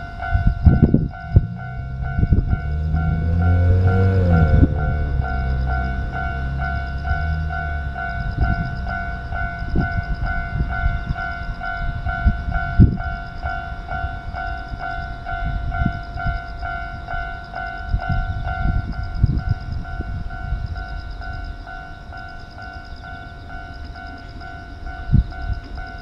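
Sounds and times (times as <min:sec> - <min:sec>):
low rumbles: 0:00.0 - 0:21.7.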